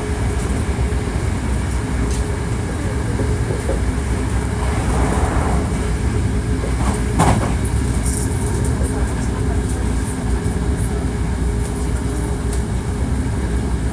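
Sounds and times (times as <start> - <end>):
train wheels rumbling: 0.0 - 13.9.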